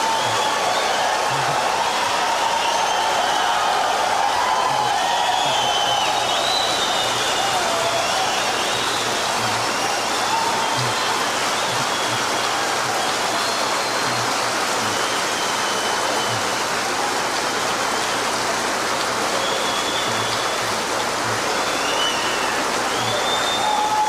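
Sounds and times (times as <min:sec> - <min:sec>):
short whistles: 0:00.0 - 0:16.7, 0:19.3 - 0:24.0
audience applauding and cheering: 0:00.0 - 0:24.0.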